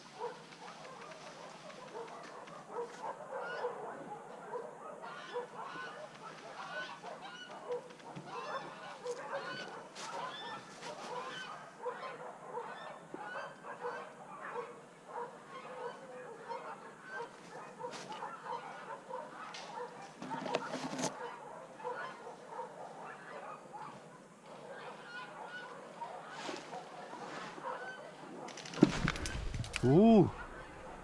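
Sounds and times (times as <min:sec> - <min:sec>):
chorus of animal calls: 0:00.0 - 0:31.0.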